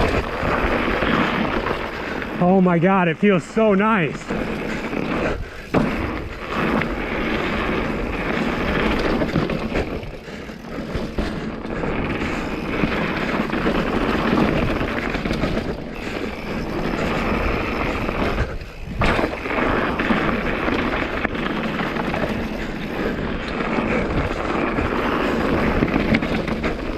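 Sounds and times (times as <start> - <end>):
bike rattling: 0.0 - 26.9
tyres rolling over dirt: 0.0 - 26.9
wind rushing over microphone: 0.0 - 26.9.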